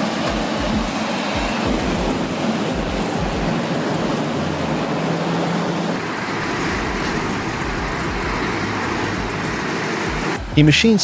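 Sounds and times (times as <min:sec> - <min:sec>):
low engine hum: 0:00.0 - 0:10.5.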